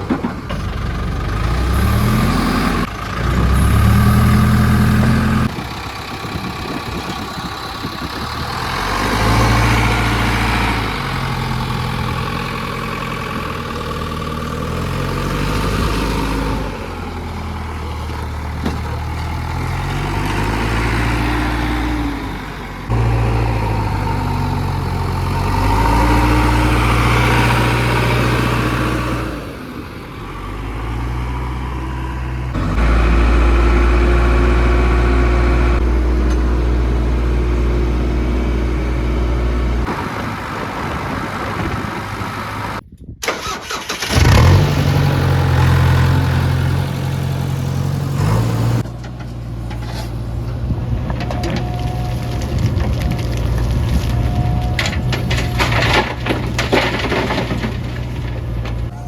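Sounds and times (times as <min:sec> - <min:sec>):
heavy diesel engines under load: 0:00.0 - 0:59.0.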